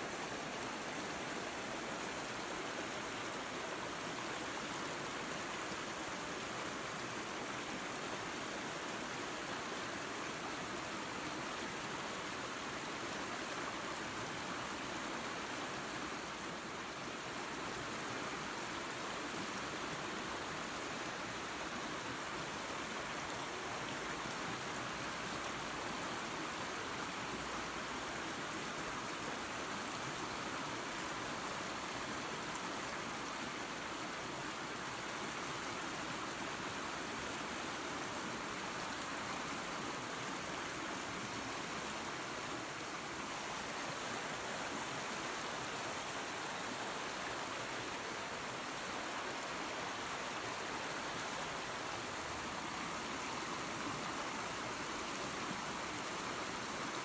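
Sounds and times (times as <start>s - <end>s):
creek and waterfall rushing: 0.0s - 57.0s.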